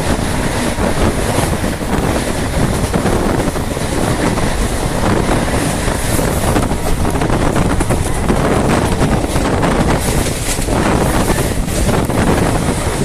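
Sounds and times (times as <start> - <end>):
train rumbling on the track: 0.0 - 13.0
wind buffeting the microphone: 0.0 - 13.0.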